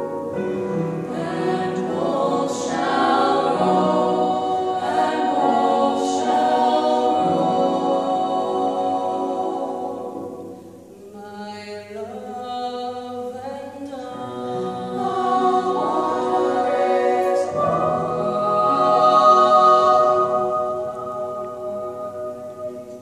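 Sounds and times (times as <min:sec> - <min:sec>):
girls singing in close harmony: 0:00.0 - 0:23.0.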